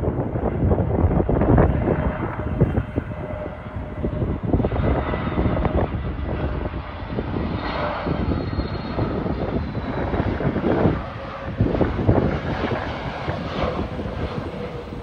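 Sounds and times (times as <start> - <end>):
jet engines rumbling with whine: 0.0 - 15.0
wind gusts on microphone: 0.0 - 15.0.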